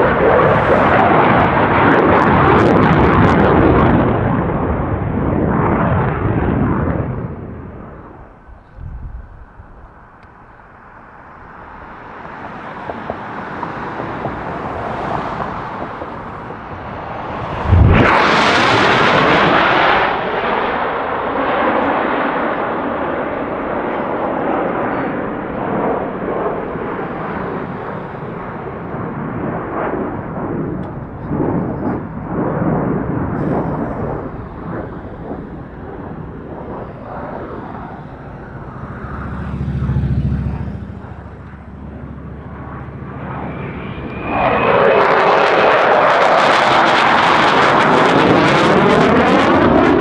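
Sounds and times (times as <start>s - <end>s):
jet flying past low: 0.0s - 50.0s.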